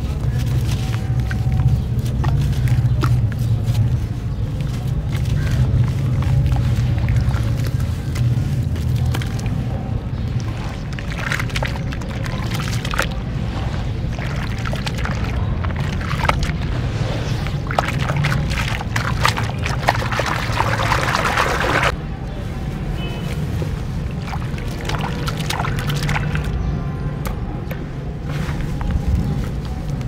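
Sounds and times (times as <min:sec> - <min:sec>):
hands squelching wet sand in water: 0:00.0 - 0:22.0, 0:23.9 - 0:26.7.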